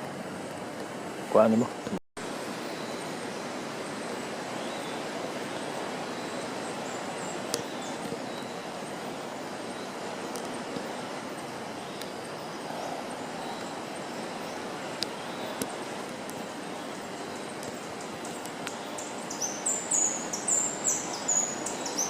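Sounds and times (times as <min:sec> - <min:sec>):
rushing background noise: 0:00.0 - 0:22.0.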